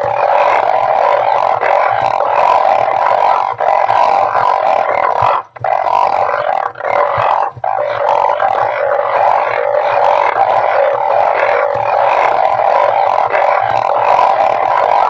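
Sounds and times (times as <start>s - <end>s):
frogs croaking in chorus: 0.0s - 15.0s.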